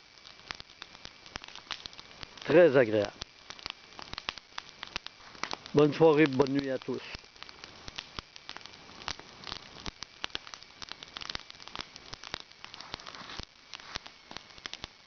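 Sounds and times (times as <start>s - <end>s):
campfire crackling and popping: 0.0s - 15.0s
fire hissing: 0.0s - 15.0s.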